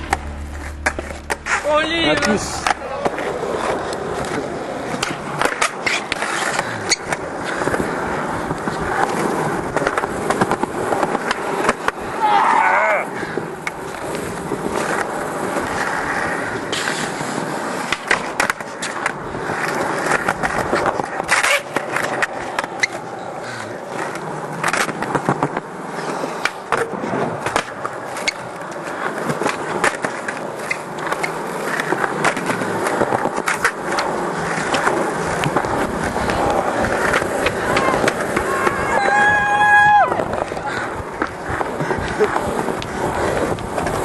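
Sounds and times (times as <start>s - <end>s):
skateboard wheels rolling on concrete: 0.0s - 44.0s
skateboard clacks: 0.8s - 44.0s.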